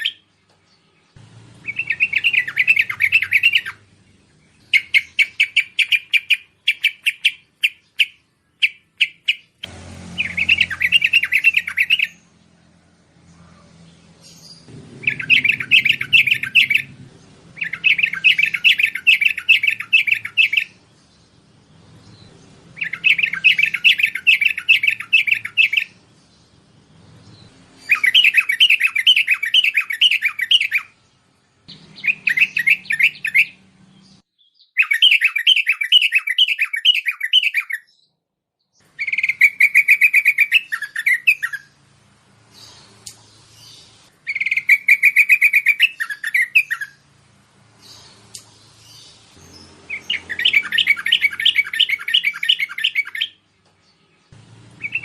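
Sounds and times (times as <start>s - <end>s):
bulbul song: 0.0s - 12.6s, 14.2s - 38.1s, 38.7s - 55.0s.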